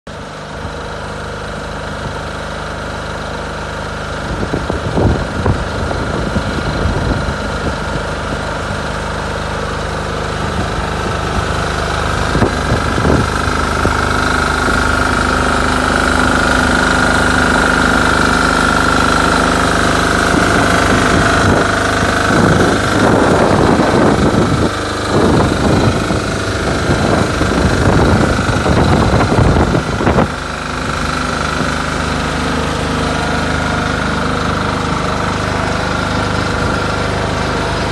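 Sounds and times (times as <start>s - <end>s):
machine engine running: 0.1s - 37.9s
steady whine: 0.5s - 37.9s.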